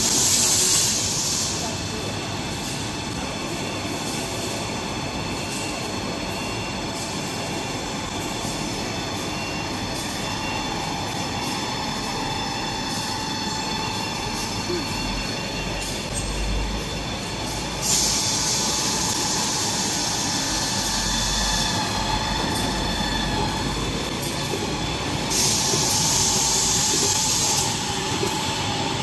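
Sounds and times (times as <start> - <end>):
conveyor machinery rumble: 0.0 - 29.0
steady whining tones: 1.7 - 29.0.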